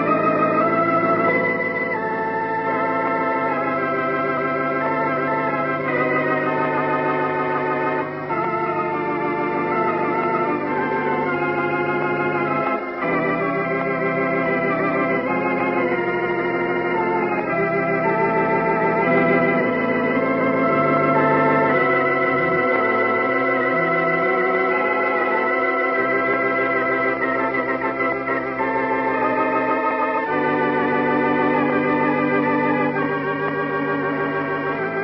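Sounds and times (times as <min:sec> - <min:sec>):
organ playing sustained chords: 0:00.0 - 0:35.0.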